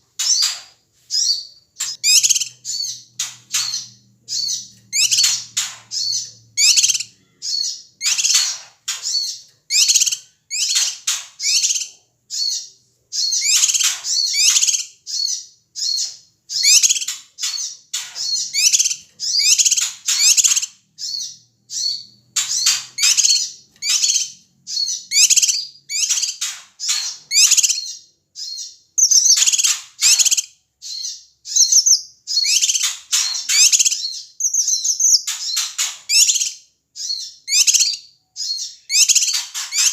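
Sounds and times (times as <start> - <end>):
bird harsh chattering calls: 0.0 - 39.9.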